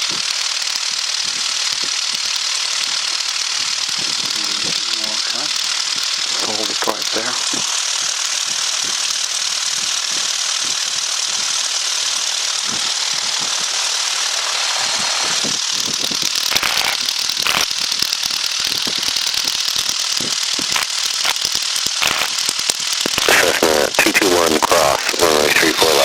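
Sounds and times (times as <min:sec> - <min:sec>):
propeller engine idling: 0:00.0 - 0:26.0.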